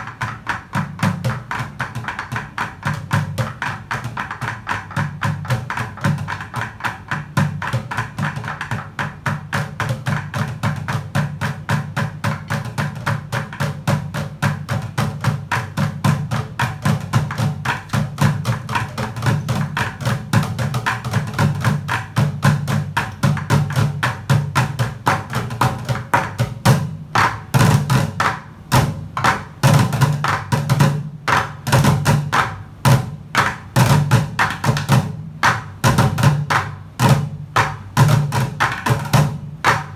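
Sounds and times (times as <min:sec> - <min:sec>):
drumsticks beating plastic buckets: 0:00.0 - 0:39.9.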